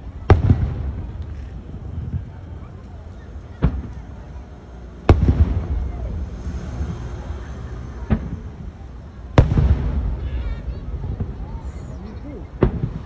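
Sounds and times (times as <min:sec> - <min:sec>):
firework shells booming: 0:00.0 - 0:04.2, 0:05.0 - 0:06.9, 0:08.0 - 0:11.9, 0:12.5 - 0:13.0.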